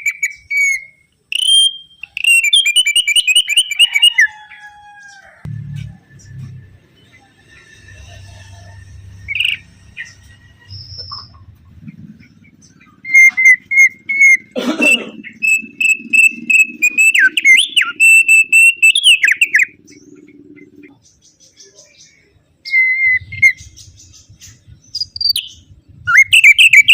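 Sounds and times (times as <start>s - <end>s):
songbird singing trills: 0.0s - 26.9s.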